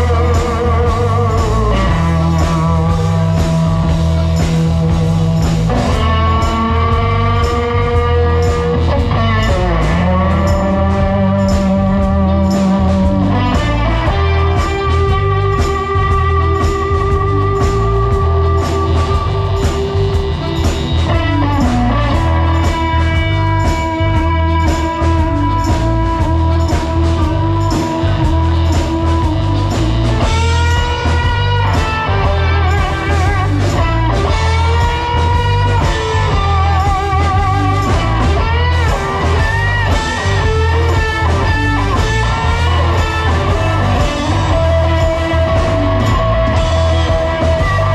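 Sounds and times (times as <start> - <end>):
electric blues band playing: 0.0 - 47.9
guitar lead with vibrato: 0.0 - 47.9.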